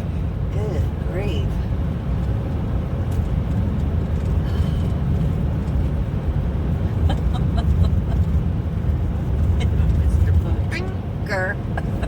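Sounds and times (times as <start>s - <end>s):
car rumbling inside cabin: 0.0s - 12.0s.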